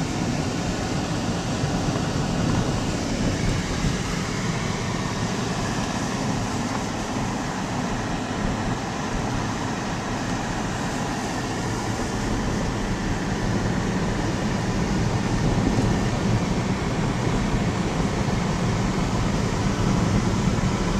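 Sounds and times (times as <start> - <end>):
car road noise inside cabin: 0.0 - 20.9.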